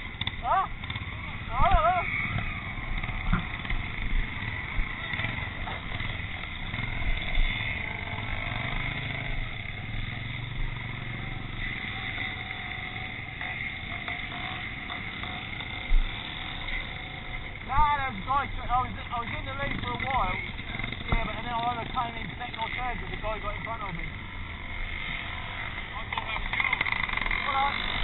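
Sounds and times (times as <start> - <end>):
distant motorcycles racing: 0.0 - 28.0.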